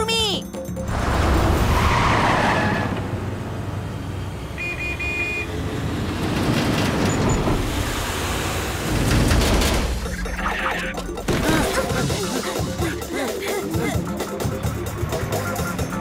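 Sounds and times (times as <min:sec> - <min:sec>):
cartoon car engine rumbling: 0:00.5 - 0:16.0.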